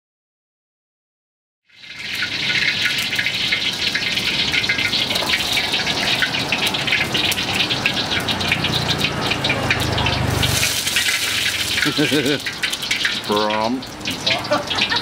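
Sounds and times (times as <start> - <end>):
hot oil hissing and crackling: 1.7 - 15.0.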